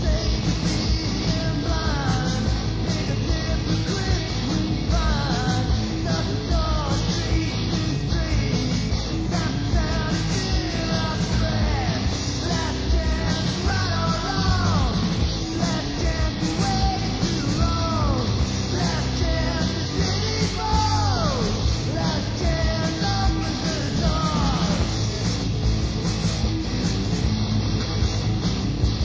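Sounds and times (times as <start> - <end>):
punk rock band playing: 0.0 - 29.0.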